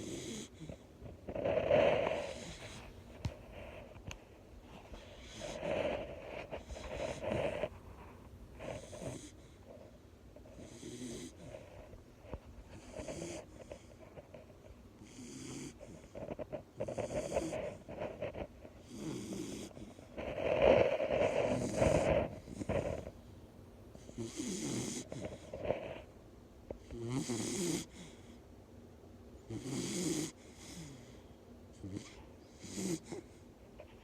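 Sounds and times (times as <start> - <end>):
dog snoring: 0.0 - 23.2, 24.0 - 26.2, 26.8 - 28.4, 29.4 - 34.0.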